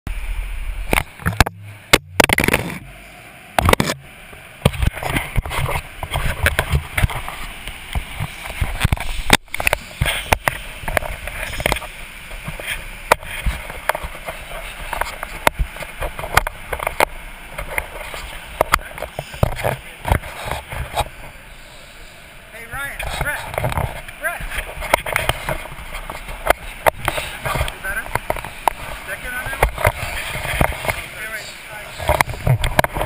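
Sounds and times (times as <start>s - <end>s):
camera rubbing and bumping: 0.9s - 2.9s, 3.6s - 21.4s, 22.9s - 33.0s.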